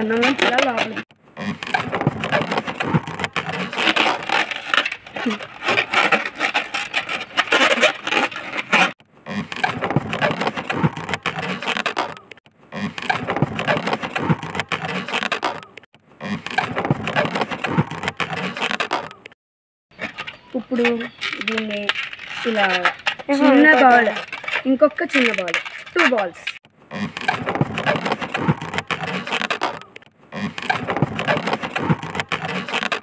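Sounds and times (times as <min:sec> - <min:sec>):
balloon squeaking and rubbing: 0:00.0 - 0:33.0.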